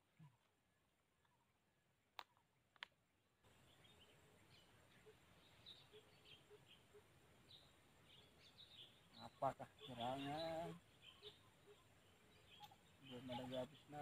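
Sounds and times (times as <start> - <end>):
faint high bird chirps: 0.0 - 14.0
faint background hiss: 2.6 - 14.0.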